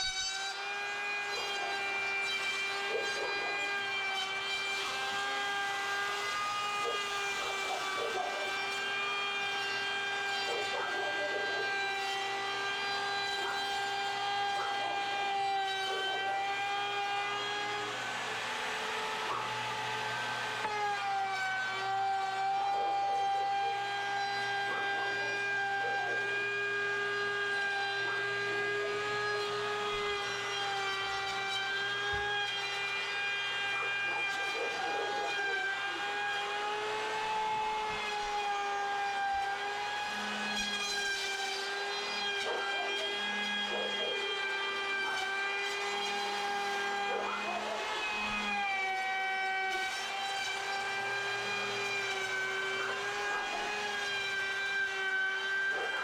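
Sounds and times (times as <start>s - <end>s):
electric router cutting wood: 0.0s - 56.0s.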